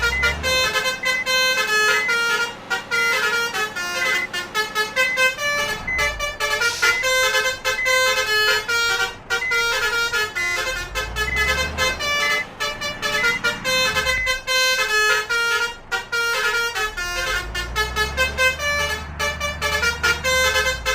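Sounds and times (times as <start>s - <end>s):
low engine rumble: 0.0s - 20.9s
multi-tone bus horn melody: 0.0s - 20.9s.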